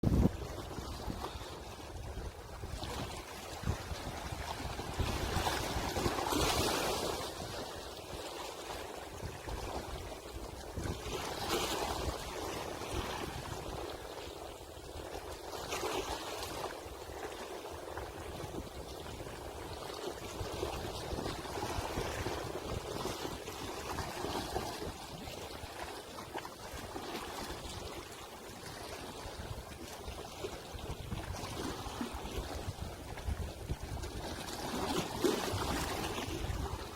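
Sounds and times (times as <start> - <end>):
sea waves washing onto shore: 0.0 - 36.9
wind rumble on microphone: 0.0 - 36.9.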